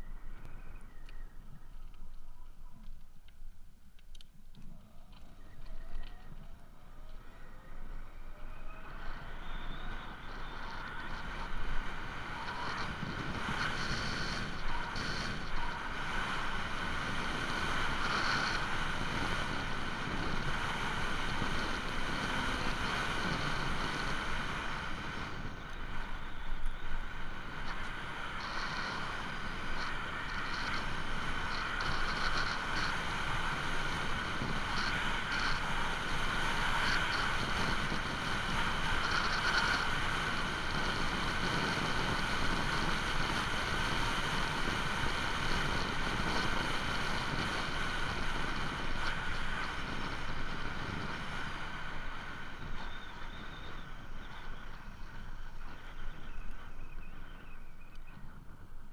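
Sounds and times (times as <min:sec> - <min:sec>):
tyres rolling on asphalt: 0:00.0 - 0:57.4
steady high whine: 0:00.0 - 0:58.9
wind on microphone: 0:04.6 - 0:58.9.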